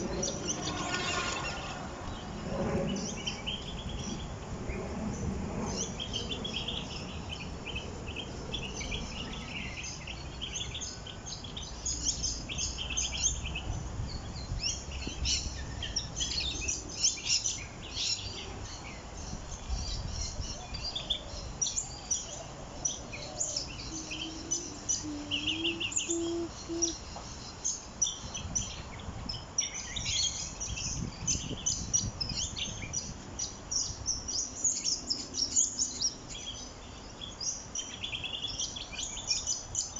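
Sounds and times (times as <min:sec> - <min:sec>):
small birds chirping: 0:05.2 - 0:39.9.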